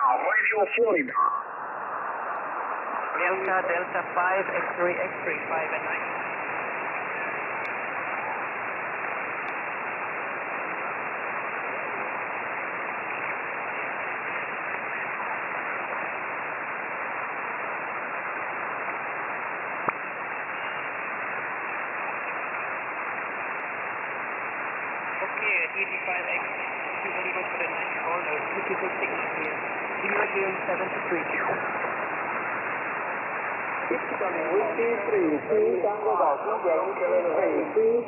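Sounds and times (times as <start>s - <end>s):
radio band noise hiss: 0.0s - 38.0s.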